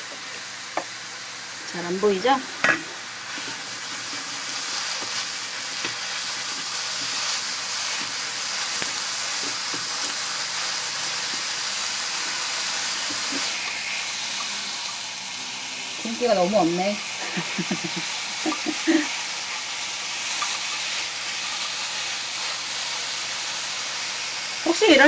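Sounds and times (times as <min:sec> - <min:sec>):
meat sizzling in a hot pan: 0:00.0 - 0:25.0.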